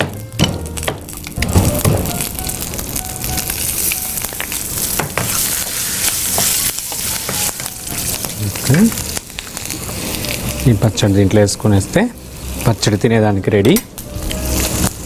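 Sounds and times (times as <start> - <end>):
spices sizzling in hot ghee: 0.0 - 15.0.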